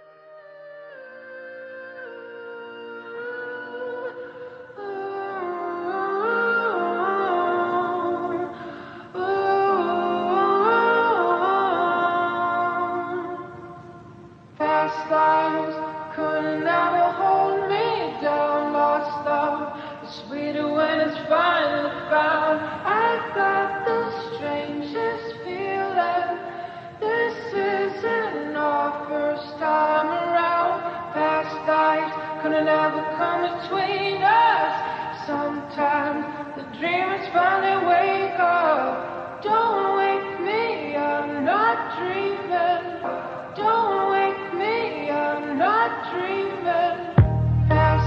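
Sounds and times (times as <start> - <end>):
held layered vocal tones: 0.0 - 48.0
person singing: 0.0 - 48.0.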